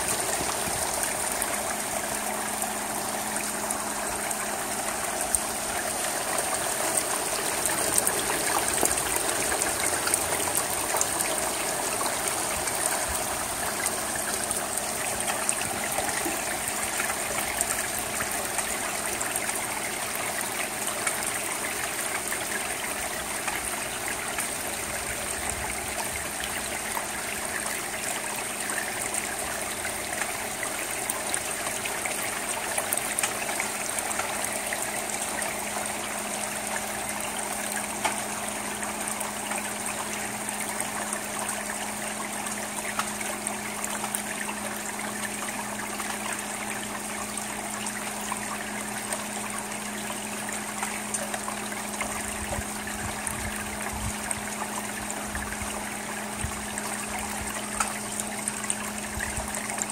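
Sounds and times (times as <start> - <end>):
rain on a roof: 0.0 - 59.9.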